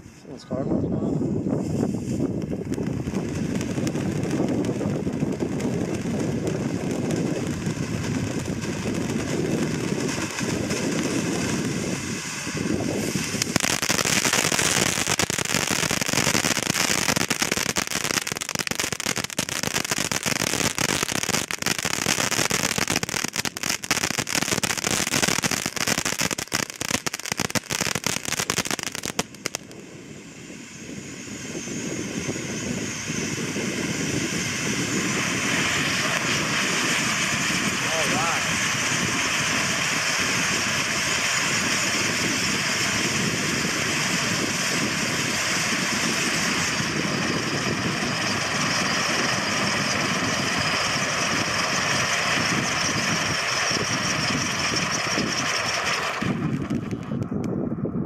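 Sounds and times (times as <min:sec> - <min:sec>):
firework fountain hissing: 0:01.2 - 0:30.9, 0:33.6 - 0:57.2
sparks crackling: 0:01.8 - 0:29.9, 0:35.0 - 0:57.3.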